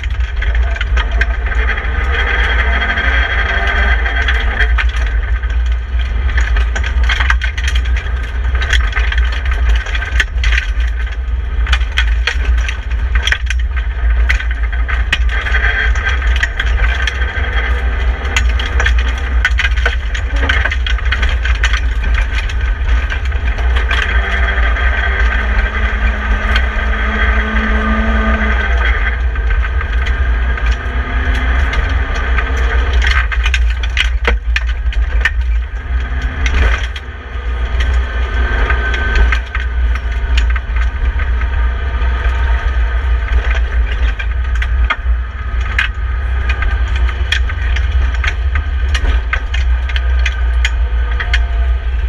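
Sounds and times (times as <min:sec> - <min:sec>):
gravel striking car body: 0:00.0 - 0:52.0
rally car engine revving: 0:00.0 - 0:52.0.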